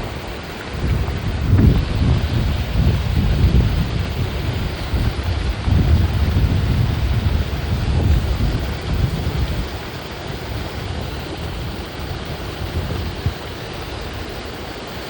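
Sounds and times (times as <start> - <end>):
wind gusting across microphone: 0.0 - 15.0.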